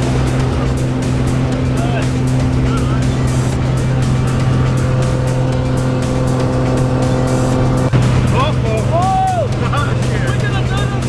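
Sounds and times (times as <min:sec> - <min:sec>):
background music: 0:00.0 - 0:11.0
plane engine drone: 0:00.0 - 0:11.0.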